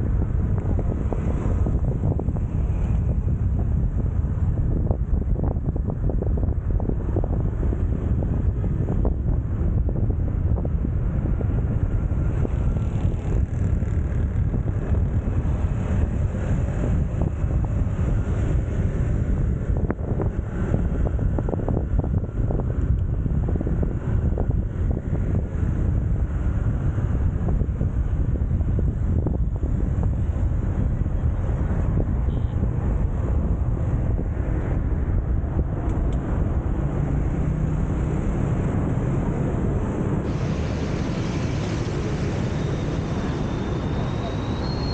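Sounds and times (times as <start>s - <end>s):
low engine hum: 0.0s - 44.9s
road and traffic rumble: 0.0s - 44.9s
wind buffeting microphone: 0.0s - 44.9s.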